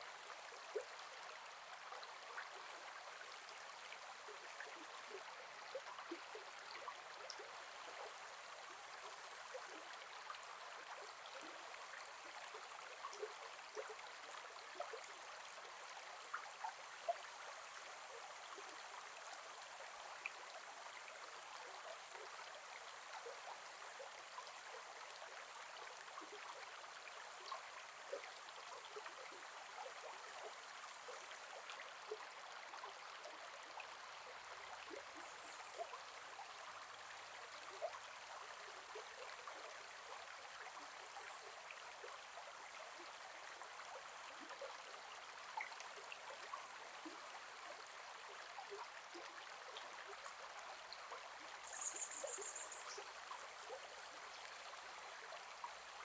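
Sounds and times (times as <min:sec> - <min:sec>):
river babbling: 0:00.1 - 0:56.0.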